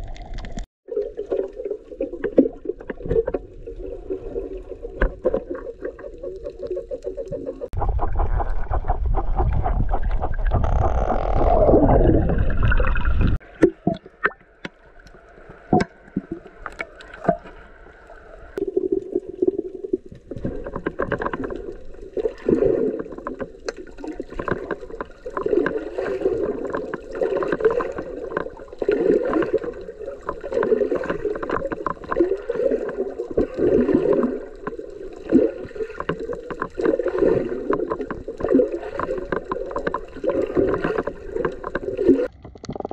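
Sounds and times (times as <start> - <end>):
water rushing and gurgling underwater: 0.0 - 42.9.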